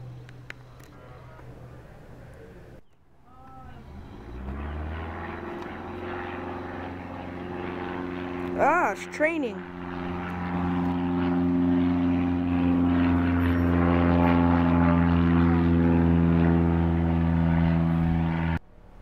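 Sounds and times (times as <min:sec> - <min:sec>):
propeller airplane engine droning: 0:00.0 - 0:19.0.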